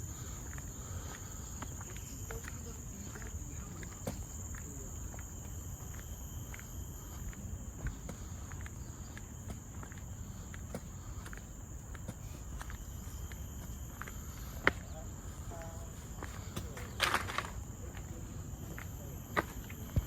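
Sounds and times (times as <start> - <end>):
footsteps on a path: 0.0 - 20.0
forest insects droning: 0.0 - 20.0.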